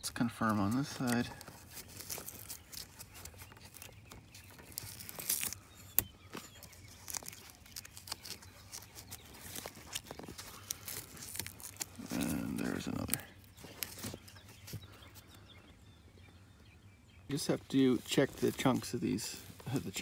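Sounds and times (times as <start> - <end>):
scratchy rustling of foam: 0.2 - 15.2, 17.3 - 20.0.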